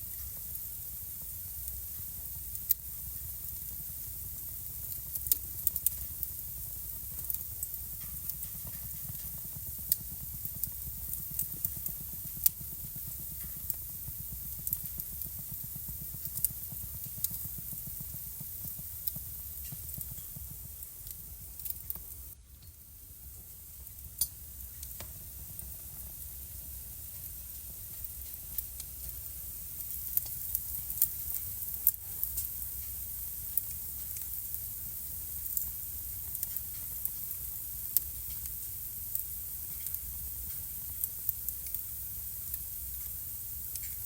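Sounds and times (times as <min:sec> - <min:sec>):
fire crackling and popping: 0:00.0 - 0:44.0
flames rumbling and hissing: 0:00.0 - 0:44.0.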